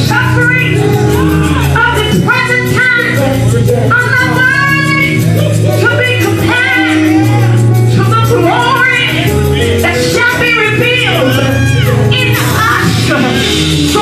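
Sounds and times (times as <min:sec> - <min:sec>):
band playing: 0:00.0 - 0:14.0
held bass notes: 0:00.0 - 0:14.0
voices singing gospel: 0:00.0 - 0:14.0.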